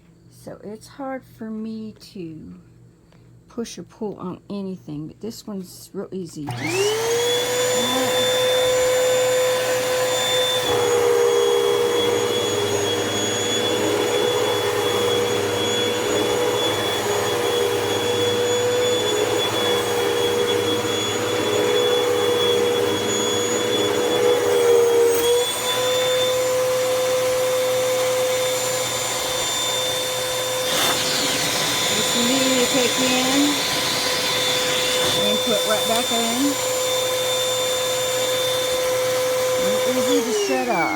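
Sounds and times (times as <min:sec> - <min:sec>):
vacuum cleaner whining: 0:06.4 - 0:40.9.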